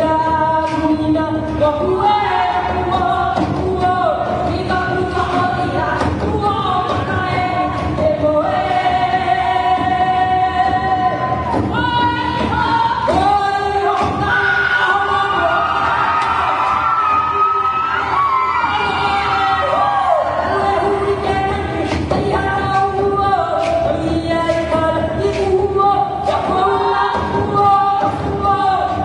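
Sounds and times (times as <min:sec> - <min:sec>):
voices singing together: 0:00.0 - 0:29.0.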